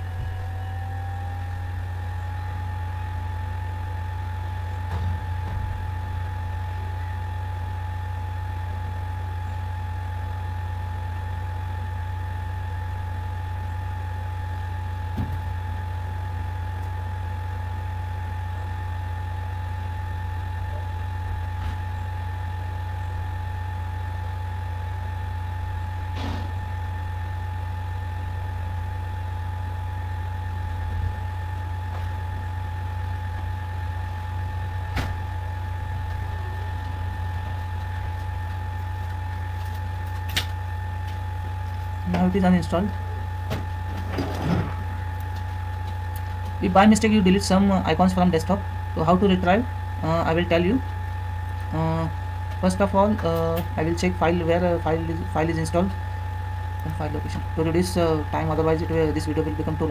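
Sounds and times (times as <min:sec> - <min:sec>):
low machine hum: 0:00.0 - 0:59.9
thin steady whine: 0:00.0 - 0:59.9.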